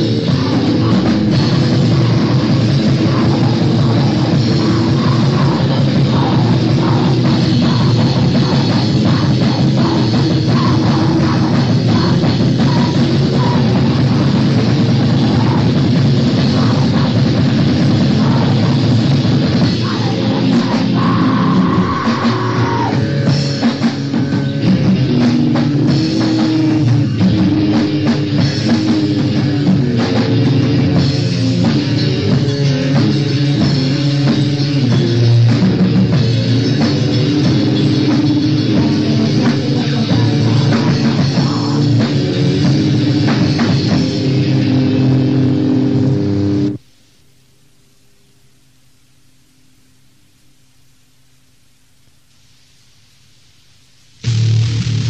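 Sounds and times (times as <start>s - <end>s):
driving drum kit: 0.0s - 46.9s, 54.1s - 55.0s
hardcore punk music: 0.0s - 46.9s, 54.2s - 55.0s
distorted electric guitars: 0.0s - 47.6s, 52.4s - 55.0s.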